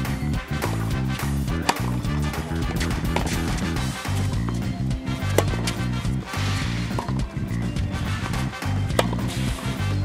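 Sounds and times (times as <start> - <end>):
music with bass beat: 0.0 - 10.0
racket hitting tennis ball: 0.6 - 9.8.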